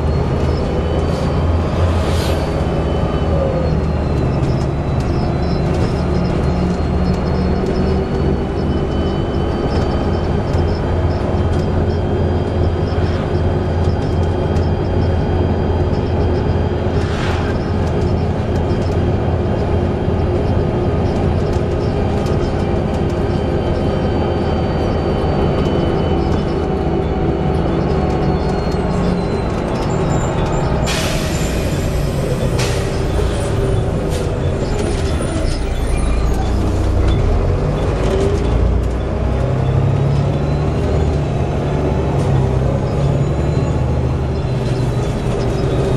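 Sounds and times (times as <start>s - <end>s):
bus diesel engine drone: 0.0s - 45.9s.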